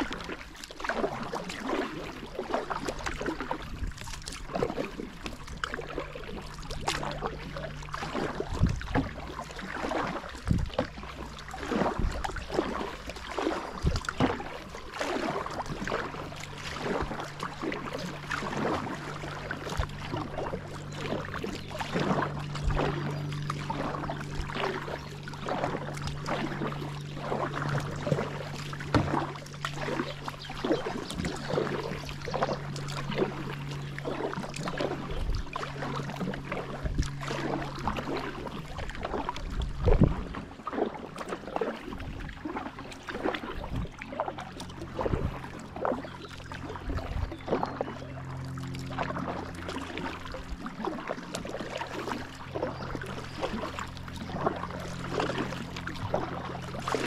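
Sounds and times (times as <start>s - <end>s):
kayak paddle splashes: 0.0s - 57.0s
steady low hum: 1.9s - 57.0s.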